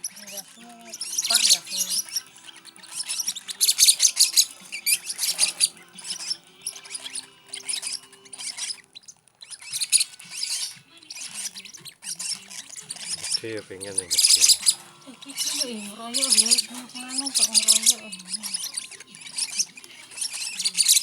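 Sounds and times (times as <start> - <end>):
bird chicks chirping: 0.0 - 21.0.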